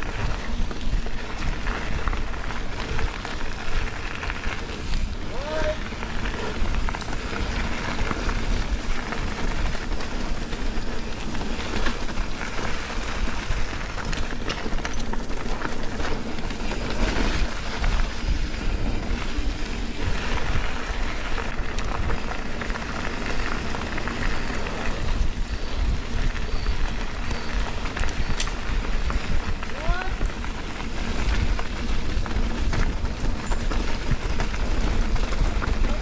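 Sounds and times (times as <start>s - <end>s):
bike tyres rolling on dirt: 0.0s - 36.0s
wind rush on microphone: 0.0s - 36.0s.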